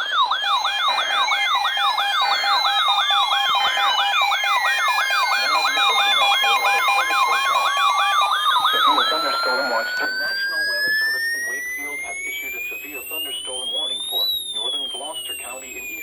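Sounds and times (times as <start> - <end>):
slow falling siren glides: 0.0 - 16.0
steady alarm tone: 0.0 - 16.0
two-tone beeping: 0.0 - 16.0
warbling siren sweeps: 0.0 - 16.0.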